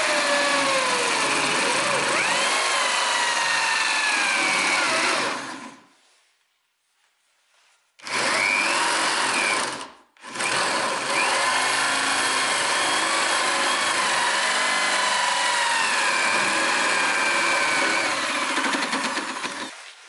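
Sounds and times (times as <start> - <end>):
electric drill boring into wood: 0.0 - 5.8, 8.0 - 19.8.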